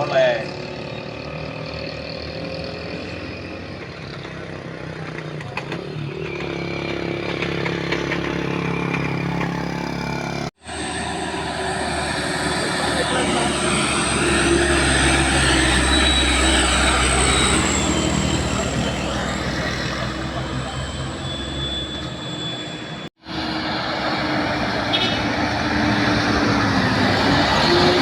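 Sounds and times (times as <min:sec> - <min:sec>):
road noise: 0:00.0 - 0:28.0
truck engine running hard: 0:00.0 - 0:28.0.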